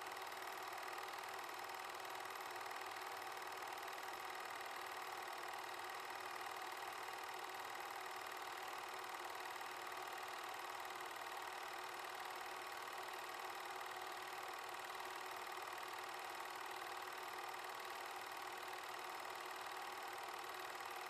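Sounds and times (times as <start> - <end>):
film projector whirring and clattering: 0.0 - 21.0.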